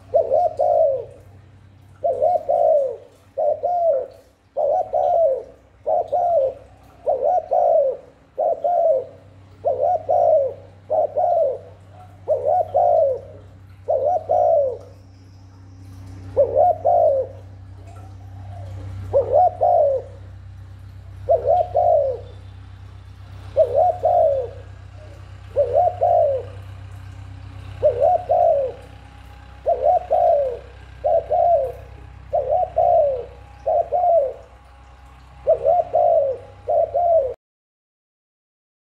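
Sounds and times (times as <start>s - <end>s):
dove cooing: 0.0s - 37.4s.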